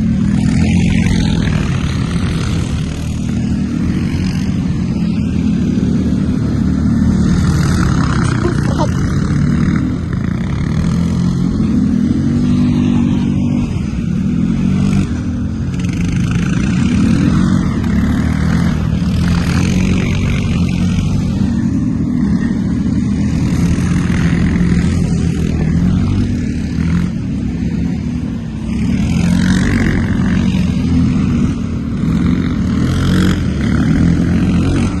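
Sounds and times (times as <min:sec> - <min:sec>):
quad bike engine running: 0:00.0 - 0:35.0.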